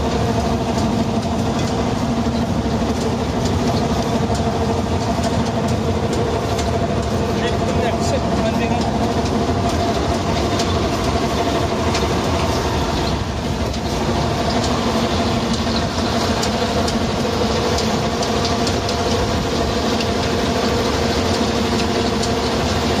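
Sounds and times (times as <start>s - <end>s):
harvester mechanical hum: 0.0s - 23.0s
tractor engine running: 0.0s - 23.0s.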